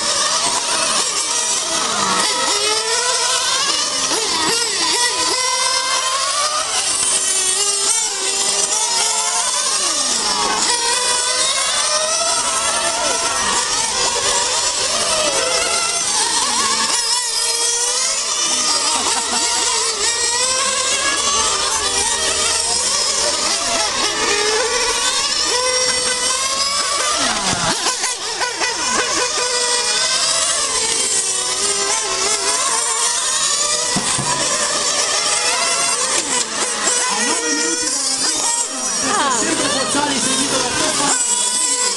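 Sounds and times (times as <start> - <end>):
model racing car motors: 0.0 - 41.9.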